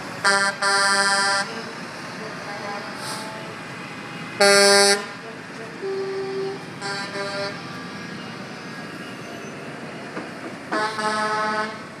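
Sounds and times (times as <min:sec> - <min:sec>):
truck engines: 0:00.0 - 0:12.0
truck horns honking: 0:00.2 - 0:09.8, 0:10.7 - 0:12.0.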